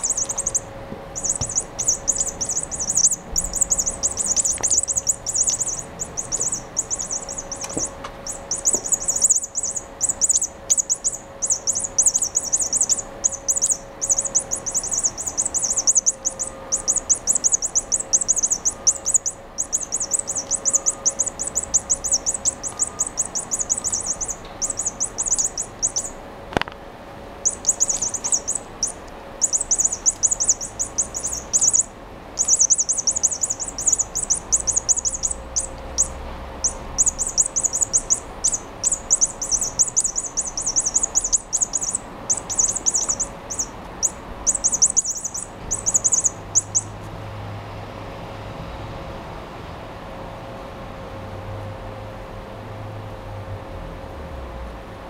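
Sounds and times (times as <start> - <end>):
toy mouse chirping: 0.0 - 26.2, 27.4 - 47.0.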